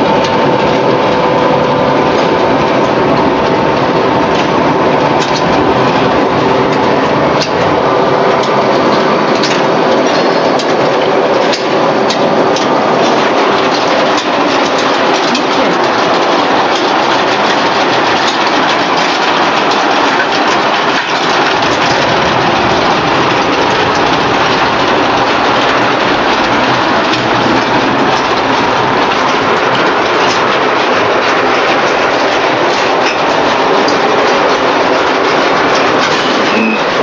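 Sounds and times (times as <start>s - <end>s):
conveyor machinery clatter: 0.0s - 37.0s.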